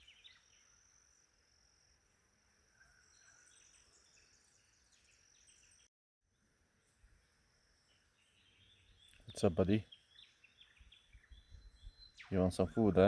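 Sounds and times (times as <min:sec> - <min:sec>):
faint bird chirps: 0:00.0 - 0:13.0
insect drone: 0:00.0 - 0:13.0.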